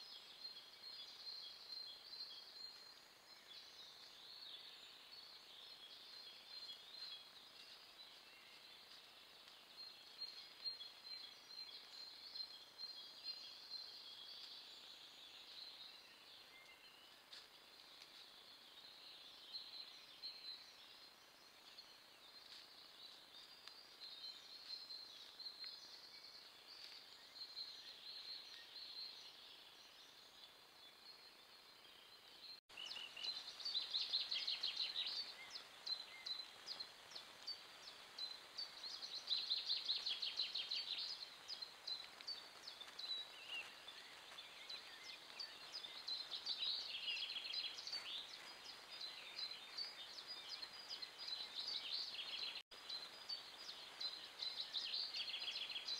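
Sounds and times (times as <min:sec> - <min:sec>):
songbirds singing and chirping: 0:00.0 - 0:55.9.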